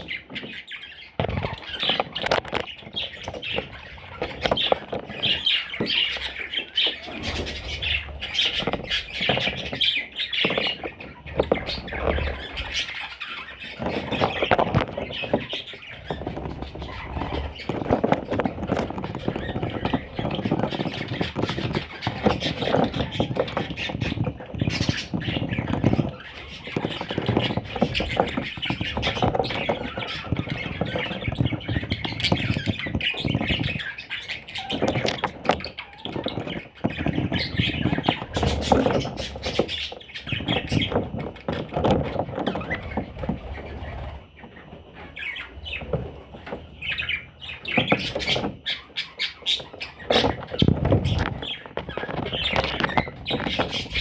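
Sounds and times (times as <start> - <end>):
parrots squawking and chattering: 0.0 - 54.0.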